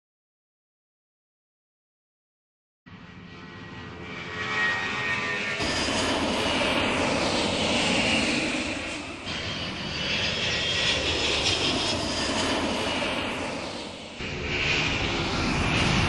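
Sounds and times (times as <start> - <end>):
airplane engine rushing: 2.9 - 16.0.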